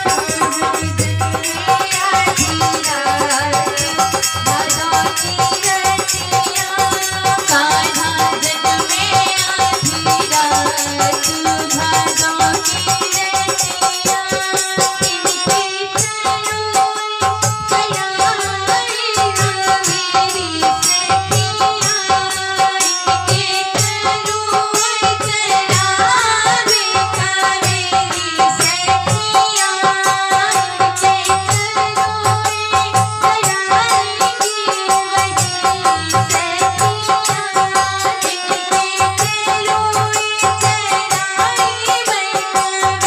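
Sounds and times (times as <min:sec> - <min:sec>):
harmonium chords: 0:00.0 - 0:43.0
rattling hand percussion: 0:00.0 - 0:43.0
woman singing: 0:00.0 - 0:43.0.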